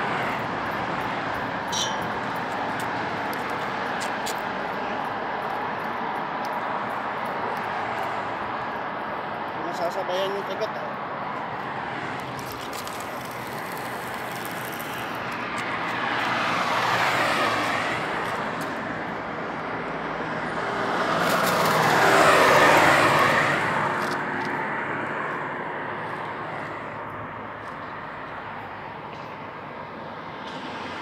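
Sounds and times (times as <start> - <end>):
cars passing on highway: 0.0 - 31.0.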